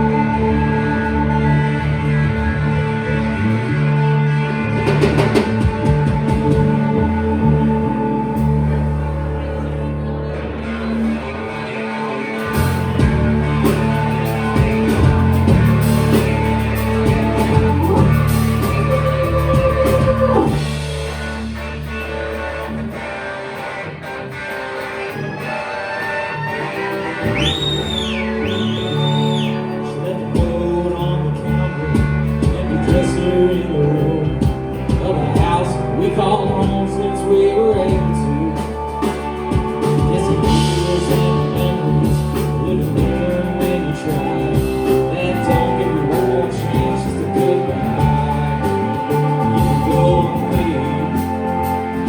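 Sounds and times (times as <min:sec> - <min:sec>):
drums: 0:00.0 - 0:09.6, 0:11.2 - 0:52.0
person singing: 0:00.0 - 0:21.6, 0:25.0 - 0:52.0
guitars: 0:00.0 - 0:52.0.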